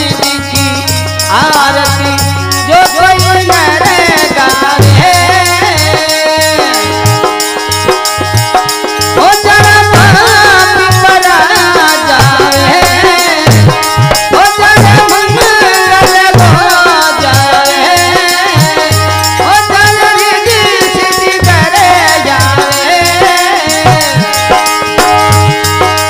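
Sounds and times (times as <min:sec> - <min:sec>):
fast rattling percussion: 0:00.0 - 0:26.0
wavering devotional melody: 0:00.0 - 0:26.0.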